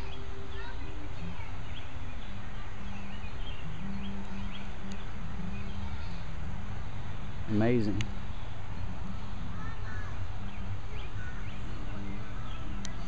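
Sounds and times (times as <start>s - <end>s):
faint bird chirps: 0.0s - 13.0s
low background noise: 0.0s - 13.0s
low hum: 0.0s - 13.0s.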